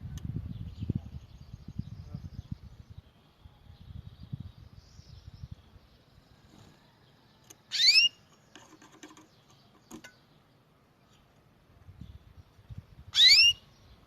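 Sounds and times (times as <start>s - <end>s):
bird rising chirp: 0.4s - 14.0s.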